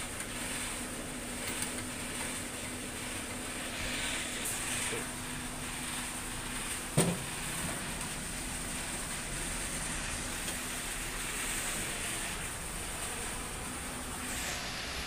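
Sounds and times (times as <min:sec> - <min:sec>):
machine running with high whine: 0:00.0 - 0:15.0.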